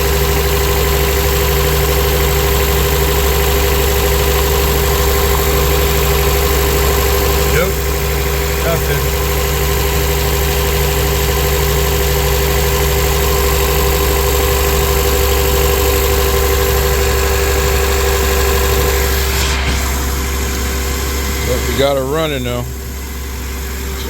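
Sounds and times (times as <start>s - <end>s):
car engine idling rough: 0.0s - 24.0s.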